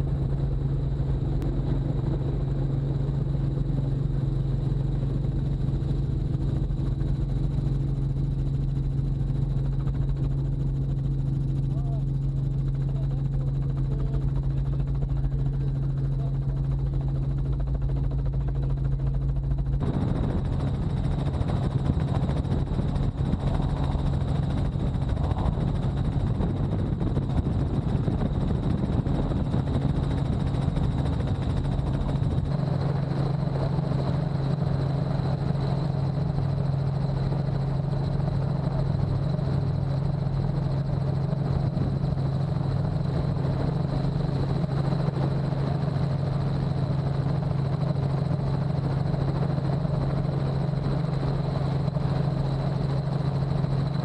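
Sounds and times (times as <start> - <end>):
helicopter engine and rotor hum: 0.0 - 54.0.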